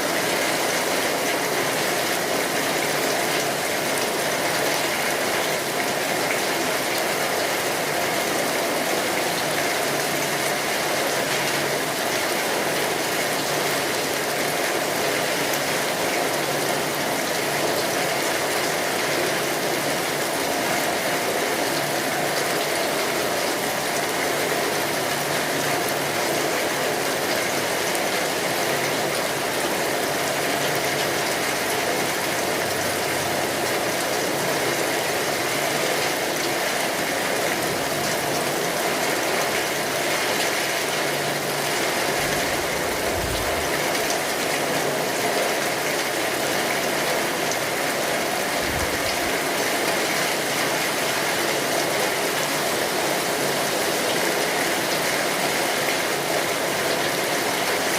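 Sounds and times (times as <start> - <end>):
rain on a tin roof: 0.0 - 57.9.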